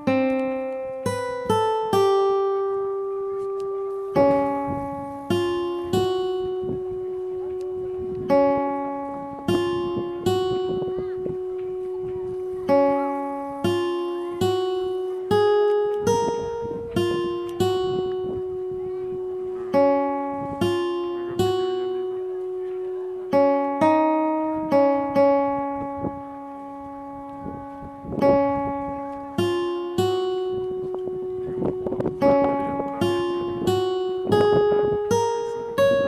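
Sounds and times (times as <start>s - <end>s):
plucked guitar melody: 0.0s - 36.0s.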